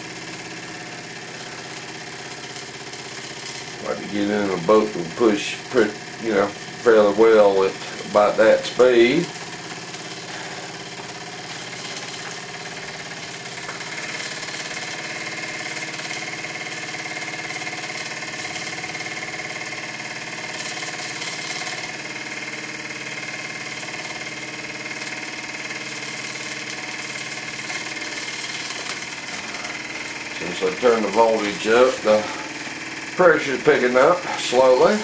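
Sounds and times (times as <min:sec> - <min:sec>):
model steam engine running: 0:00.0 - 0:35.0.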